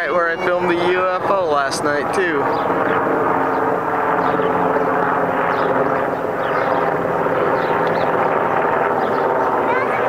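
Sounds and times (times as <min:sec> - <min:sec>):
helicopter rotor and engine noise: 0:00.0 - 0:10.0.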